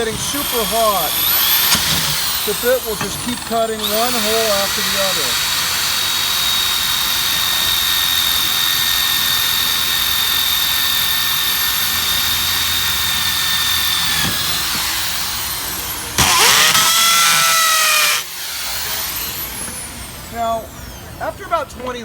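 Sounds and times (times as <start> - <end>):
electric drill whining: 0.0 - 21.4.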